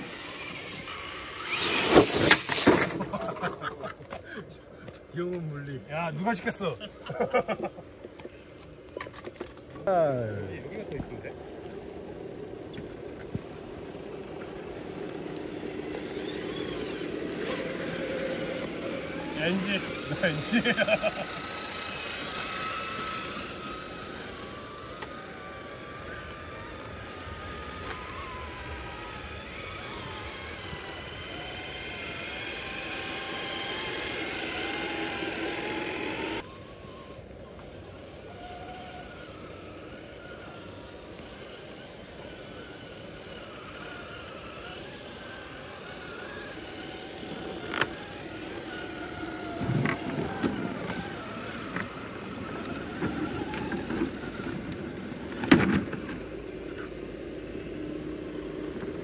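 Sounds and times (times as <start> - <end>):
electric motor and gears whining: 0.0 - 59.0.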